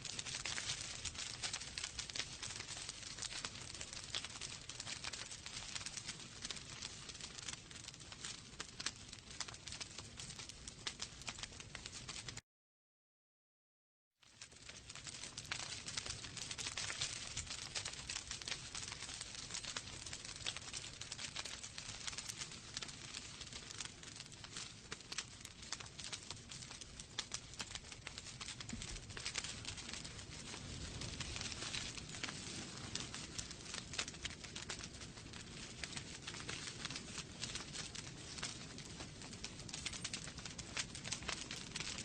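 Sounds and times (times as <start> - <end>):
logs crackling in a fire: 0.0 - 12.4, 14.2 - 42.0.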